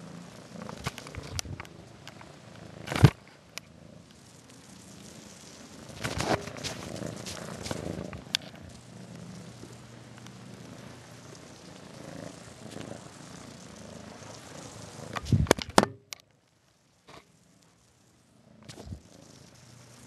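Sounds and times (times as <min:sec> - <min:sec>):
cat purring: 0:00.0 - 0:15.6, 0:16.8 - 0:20.0.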